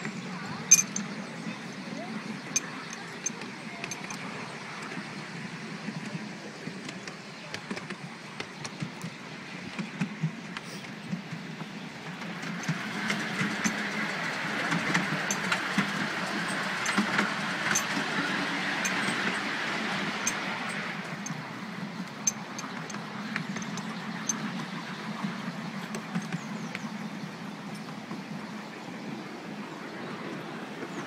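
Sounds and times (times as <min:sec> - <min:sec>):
miniature train rumbling: 0:00.0 - 0:31.0
wheels clicking on track: 0:00.0 - 0:31.0.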